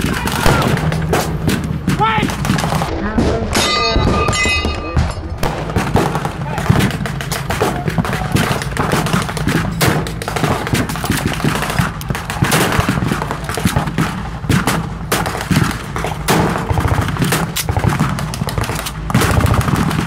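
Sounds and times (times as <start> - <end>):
blank gunfire: 0.0 - 3.5, 5.4 - 20.0.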